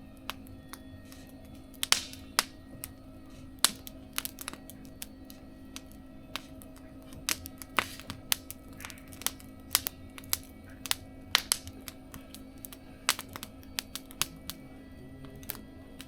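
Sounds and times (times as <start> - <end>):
campfire crackling and popping: 0.0 - 16.0
faint steady hum: 0.0 - 16.0.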